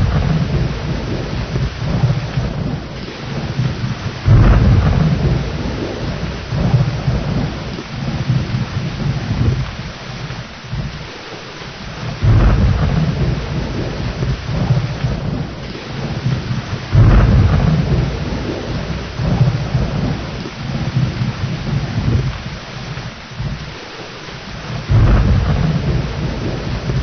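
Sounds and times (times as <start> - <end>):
rolling thunder: 0.0 - 27.0
steady rain: 0.0 - 27.0.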